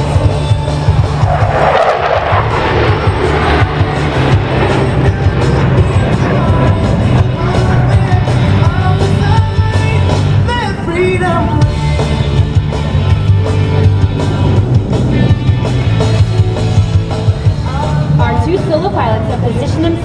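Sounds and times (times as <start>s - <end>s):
heavy bass line: 0.0s - 20.0s
loud music with singer: 0.0s - 20.0s.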